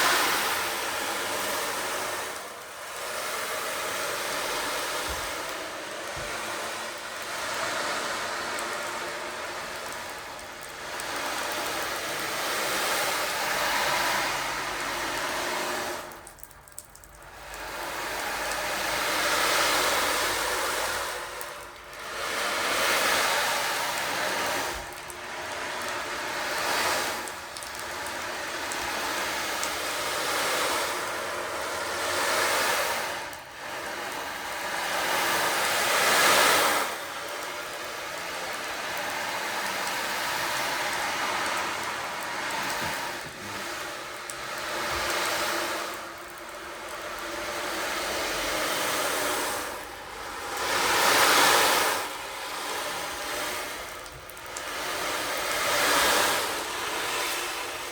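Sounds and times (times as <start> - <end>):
rushing noise: 0.0 - 16.1, 17.5 - 54.0.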